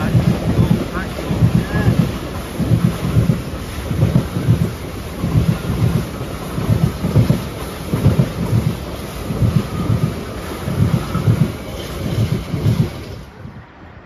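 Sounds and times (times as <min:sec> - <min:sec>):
freight train wheels thudding: 0:00.0 - 0:13.6
train rumble: 0:00.0 - 0:14.0.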